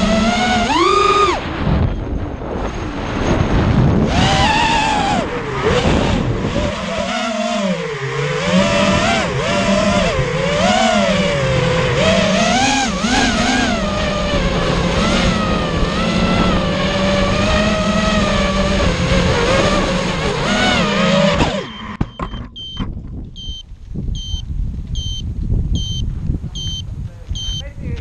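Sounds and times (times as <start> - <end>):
quadcopter motors whining: 0.0 - 22.7.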